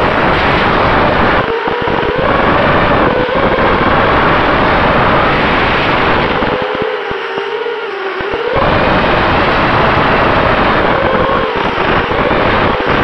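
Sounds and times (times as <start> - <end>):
rushing air on microphone: 0.0 - 7.1, 8.5 - 13.0
drone motors whining: 0.0 - 13.0.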